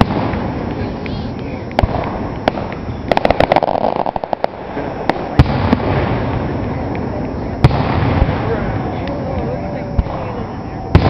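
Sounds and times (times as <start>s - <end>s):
fireworks crackling pops: 0.0s - 11.0s.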